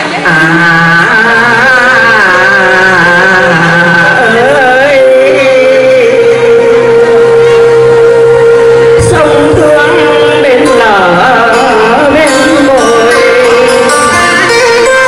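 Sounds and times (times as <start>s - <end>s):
instrumental accompaniment: 0.0s - 15.0s
woman singing into microphone: 0.0s - 15.0s.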